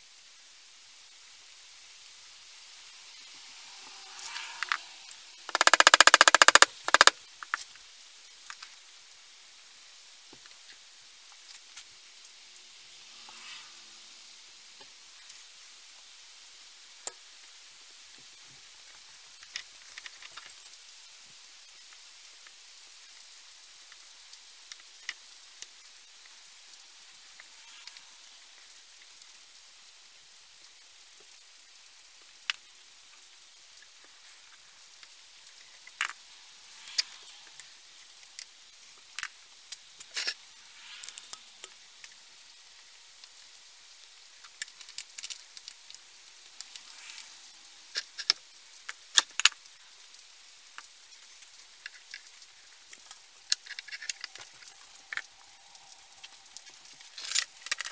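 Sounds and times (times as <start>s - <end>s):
faint steady hiss: 0.0s - 57.9s.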